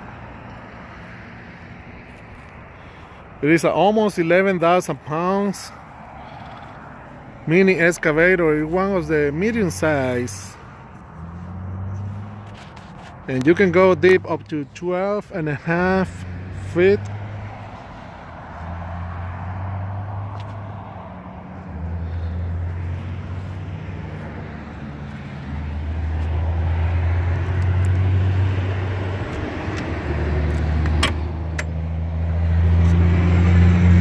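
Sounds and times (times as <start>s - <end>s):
highway traffic rumble: 0.0s - 34.0s.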